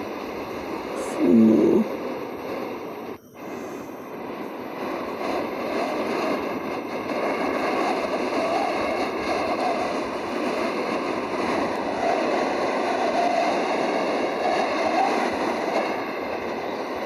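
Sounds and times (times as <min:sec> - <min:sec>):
strong storm wind rushing: 0:00.0 - 0:17.0.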